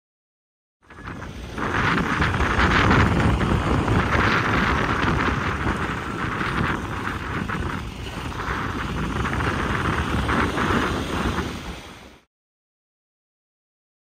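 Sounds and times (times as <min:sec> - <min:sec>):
wind rushing over microphone: 0:00.8 - 0:12.3.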